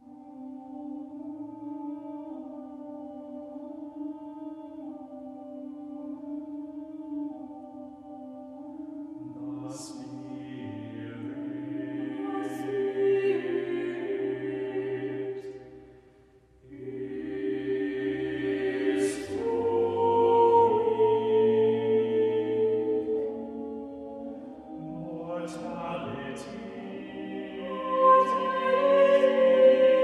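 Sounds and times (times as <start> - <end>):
choir singing unaccompanied: 0.0 - 16.0, 16.6 - 30.0.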